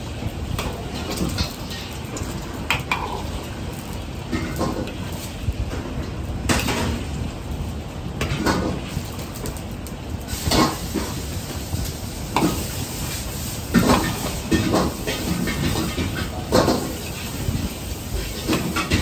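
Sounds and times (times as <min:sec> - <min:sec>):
eggs sizzling in oil: 0:00.0 - 0:19.0.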